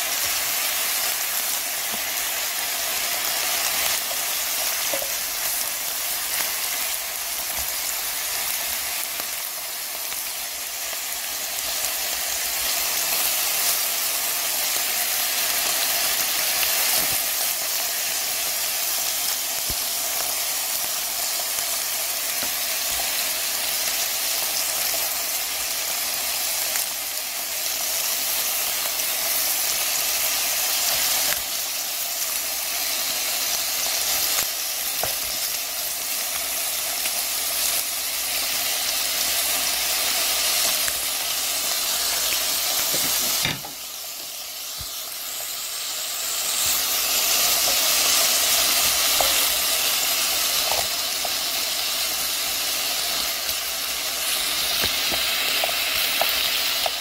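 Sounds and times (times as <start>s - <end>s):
meat sizzling in a grill pan: 0.0s - 57.0s.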